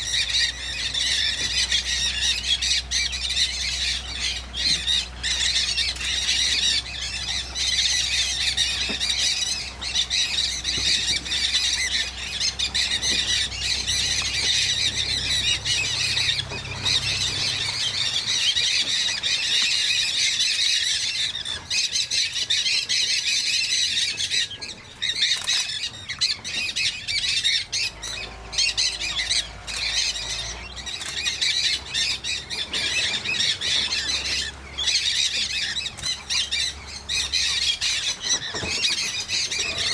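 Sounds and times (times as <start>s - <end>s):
flock of parrots squawking: 0.0s - 39.9s.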